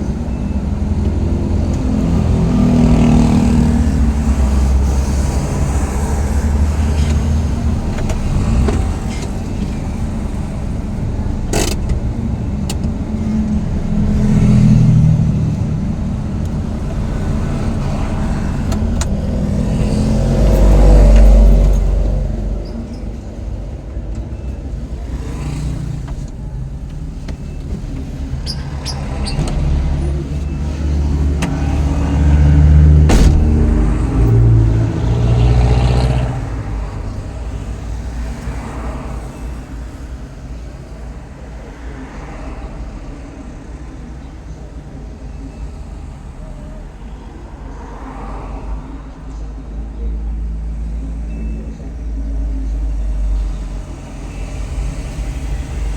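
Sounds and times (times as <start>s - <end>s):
vehicle engine rumbling: 0.0s - 55.9s.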